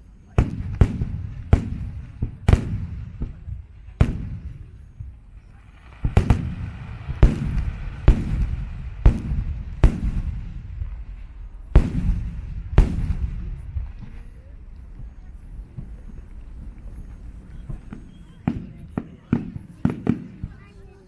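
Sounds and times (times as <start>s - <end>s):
firework shells bursting: 0.4s - 20.6s.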